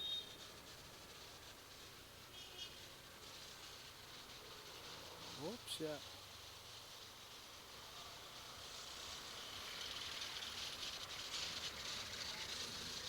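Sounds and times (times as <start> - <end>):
wind and road noise hiss: 0.0 - 13.0.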